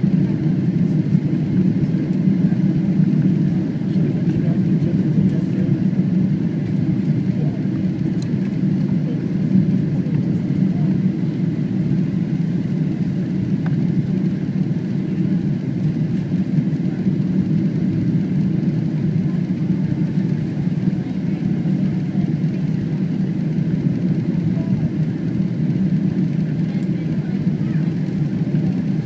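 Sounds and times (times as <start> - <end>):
airplane engines rumbling in cabin: 0.0 - 29.0.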